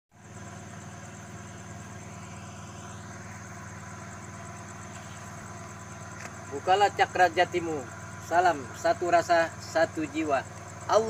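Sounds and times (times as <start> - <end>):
low pulsing mechanical hum: 0.1 - 11.0.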